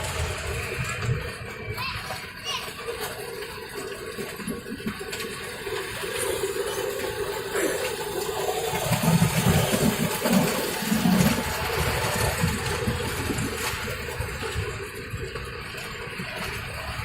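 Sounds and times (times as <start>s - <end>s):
train rumbling and hissing: 0.0s - 17.0s.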